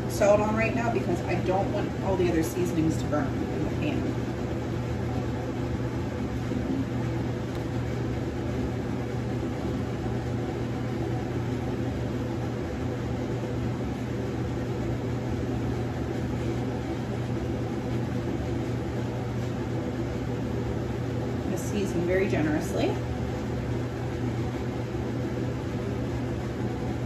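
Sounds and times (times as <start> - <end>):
kitchen vent fan humming: 0.0 - 27.0.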